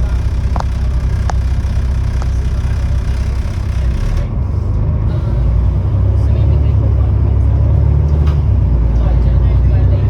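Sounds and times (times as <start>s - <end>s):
diesel bus engine idling: 0.0s - 10.0s.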